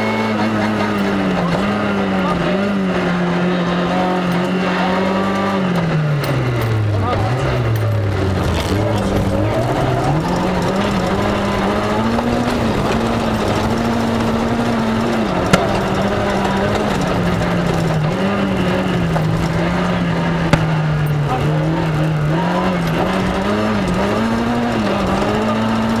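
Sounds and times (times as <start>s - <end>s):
rally car engine running hard: 0.0s - 26.0s
tyres on gravel: 4.8s - 26.0s.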